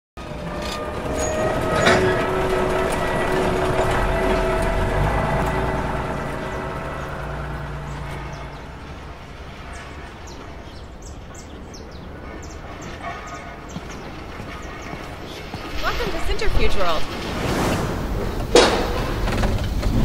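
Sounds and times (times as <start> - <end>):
large engine rumbling: 0.2 - 20.0.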